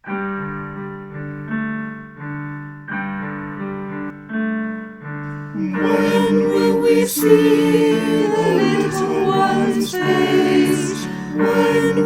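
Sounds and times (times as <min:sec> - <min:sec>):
piano playing slow chords: 0:00.0 - 0:12.0.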